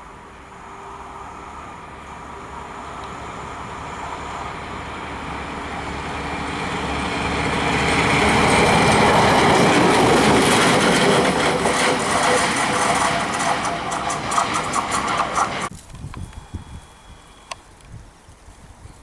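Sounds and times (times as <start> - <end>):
track motor car running: 0.0 - 15.7.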